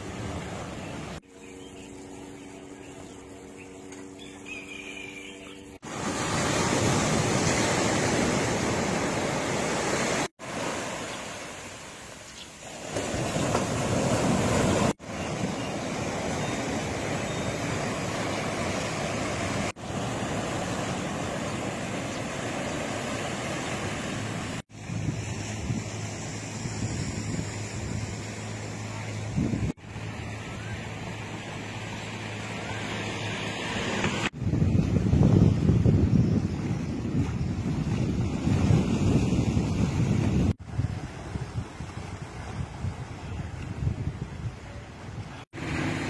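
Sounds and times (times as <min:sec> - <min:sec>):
surf washing up beach: 0:05.7 - 0:46.0.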